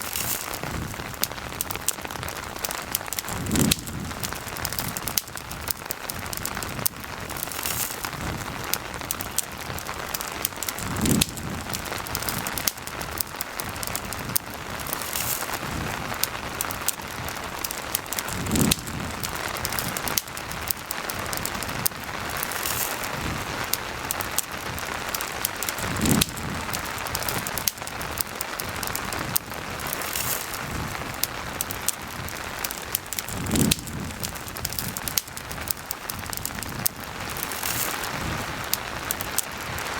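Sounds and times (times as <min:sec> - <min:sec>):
campfire crackling: 0:00.0 - 0:39.9
rain pattering: 0:00.0 - 0:39.9.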